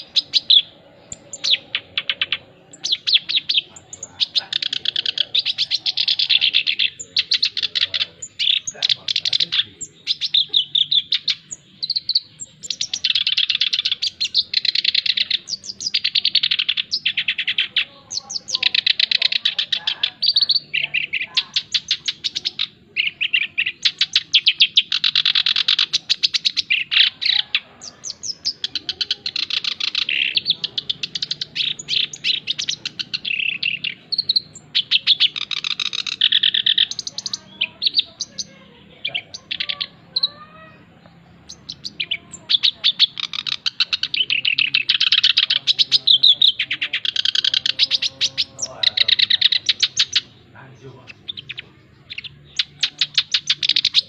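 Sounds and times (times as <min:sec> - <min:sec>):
soft bird calls: 0:00.0 - 0:54.0
warbler singing: 0:00.0 - 0:54.0.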